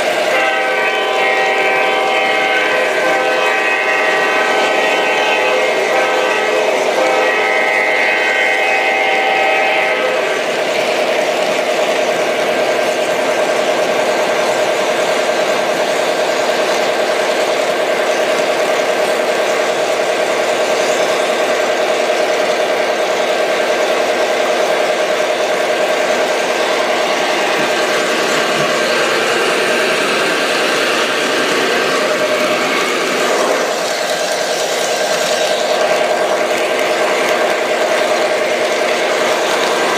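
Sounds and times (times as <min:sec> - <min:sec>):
model train humming: 0:00.0 - 0:39.9.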